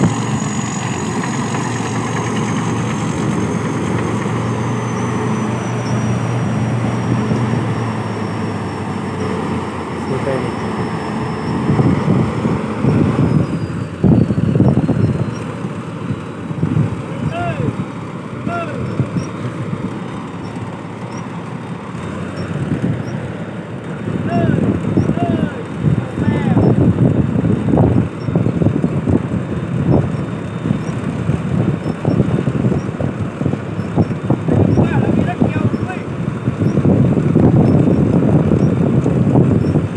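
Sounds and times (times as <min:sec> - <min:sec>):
combine harvester engine rumbling: 0:00.0 - 0:39.9.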